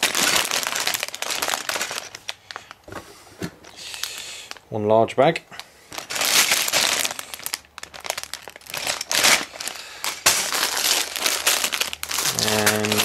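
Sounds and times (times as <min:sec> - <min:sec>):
plastic bag crinkling: 0:00.0 - 0:02.9, 0:03.6 - 0:04.6, 0:05.5 - 0:13.0.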